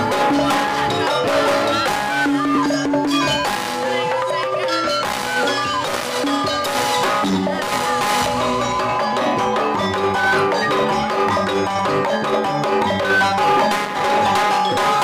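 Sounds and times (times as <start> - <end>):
drums: 0.0 - 15.0
gamelan metal keyed instruments: 0.0 - 15.0.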